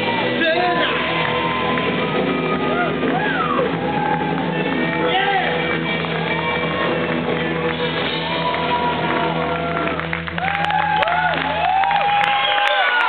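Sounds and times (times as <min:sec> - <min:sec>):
live funk band playing: 0:00.0 - 0:10.6
audience whooping and cheering: 0:00.0 - 0:13.0.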